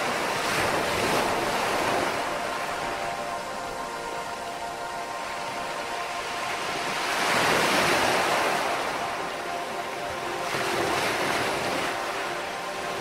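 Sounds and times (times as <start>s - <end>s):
ocean surf washing ashore: 0.0s - 13.0s.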